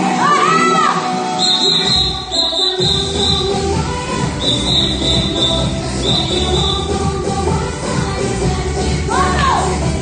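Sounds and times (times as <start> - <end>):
loud dance music: 0.0 - 10.0.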